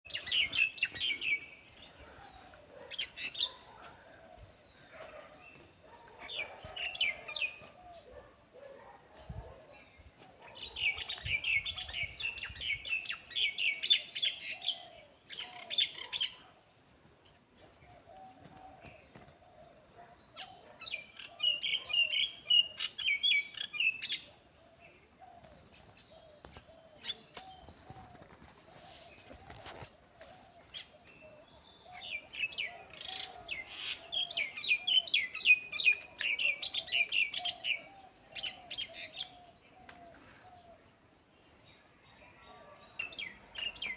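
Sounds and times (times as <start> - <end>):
birds chirping: 0.0 - 16.5, 17.2 - 43.9.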